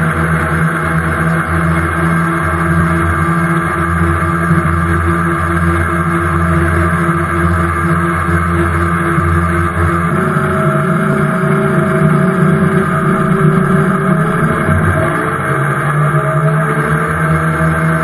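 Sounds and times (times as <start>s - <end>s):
outboard motor running: 0.0s - 18.0s
water rushing in wake: 0.0s - 18.0s.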